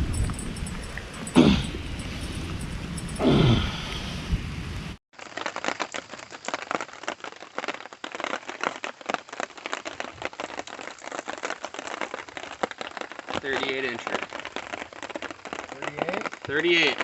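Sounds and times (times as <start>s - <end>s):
heavy rain pattering: 0.0s - 4.1s, 4.8s - 17.0s.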